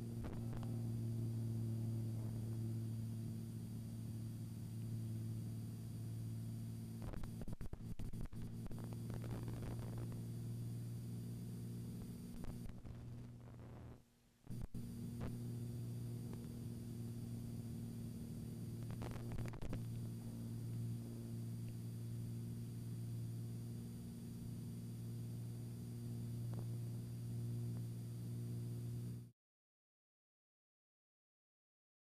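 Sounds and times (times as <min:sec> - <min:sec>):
plane cockpit drone: 0:00.0 - 0:29.3.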